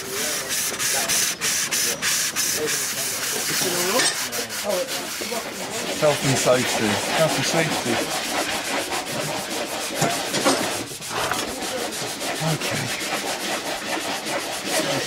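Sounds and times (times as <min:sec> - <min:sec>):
sandpaper rubbing on wood: 0:00.0 - 0:15.0.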